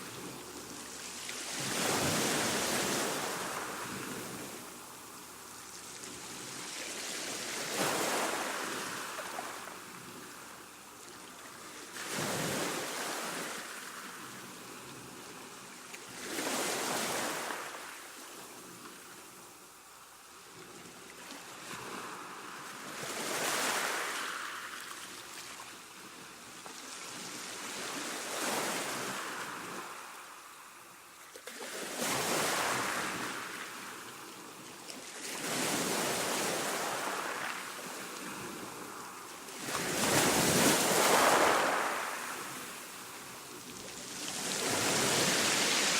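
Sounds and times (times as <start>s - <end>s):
gentle waves on shore: 0.0s - 45.9s.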